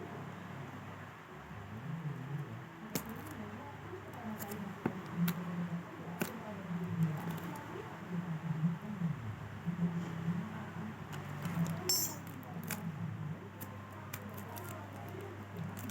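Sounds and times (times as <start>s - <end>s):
low murmuring background: 0.0s - 15.9s.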